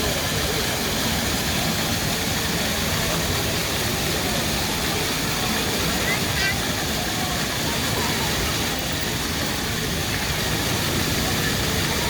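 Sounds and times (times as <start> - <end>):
faint voices: 0.0 - 12.0
fountain jets splashing on paving: 0.0 - 12.0.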